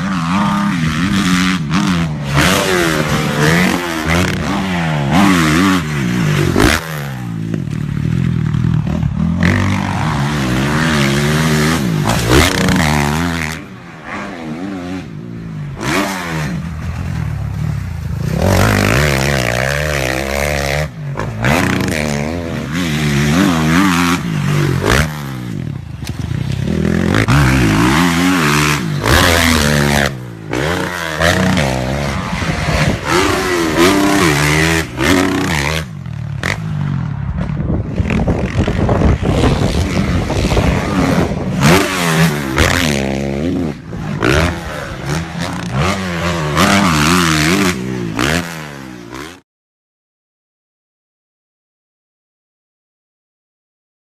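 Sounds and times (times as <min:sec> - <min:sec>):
motocross bike engines revving: 0:00.0 - 0:49.4.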